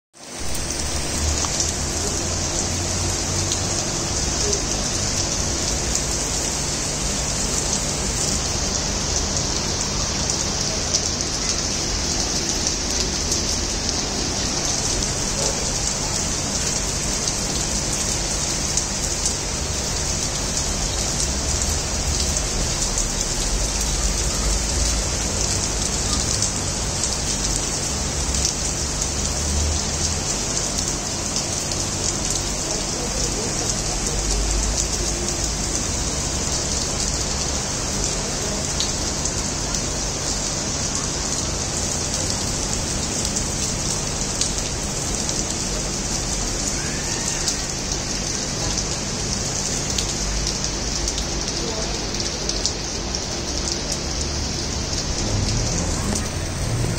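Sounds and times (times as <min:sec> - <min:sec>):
steady rain on leaves and paving: 0:00.1 - 0:56.9.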